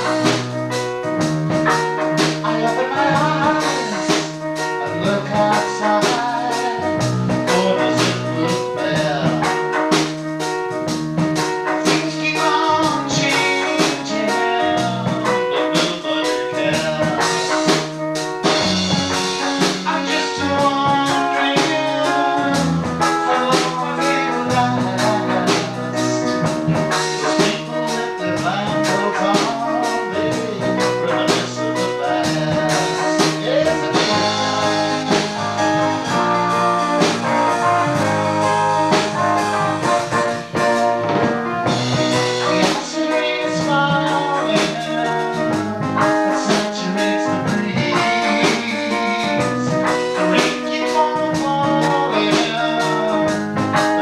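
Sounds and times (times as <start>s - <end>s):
drum kit steady beat: 0.0s - 54.0s
guitar: 0.0s - 54.0s
person singing: 1.7s - 10.0s, 11.5s - 17.9s, 18.6s - 40.9s, 41.5s - 54.0s.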